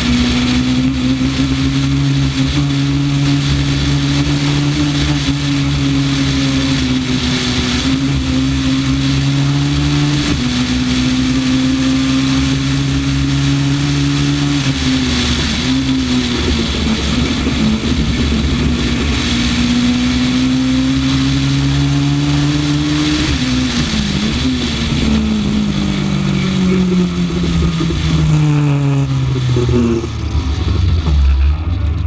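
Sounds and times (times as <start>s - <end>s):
car engine under load: 0.0s - 32.0s
road and wind noise: 0.0s - 32.0s.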